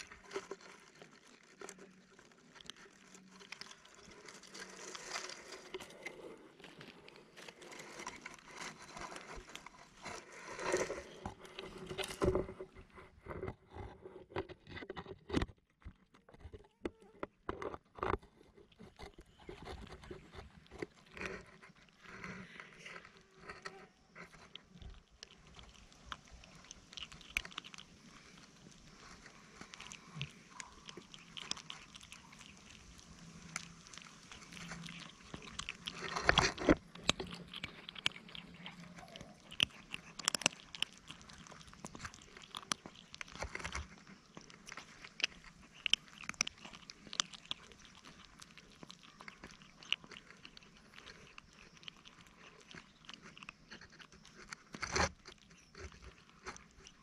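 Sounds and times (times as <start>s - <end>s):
kittens crunching dry food: 0.0s - 57.0s.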